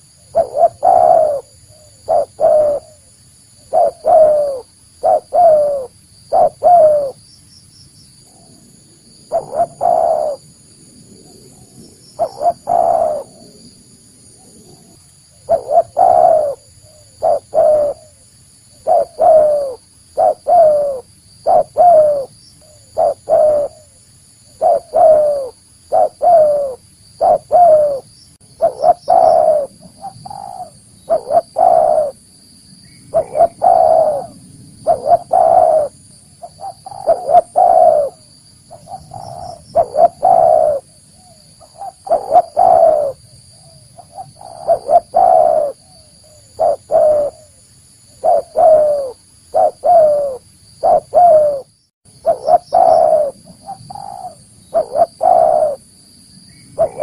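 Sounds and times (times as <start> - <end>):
dove cooing: 0.0 - 7.2, 9.3 - 10.5, 11.2 - 13.7, 14.4 - 32.2, 33.1 - 55.9, 56.8 - 57.0.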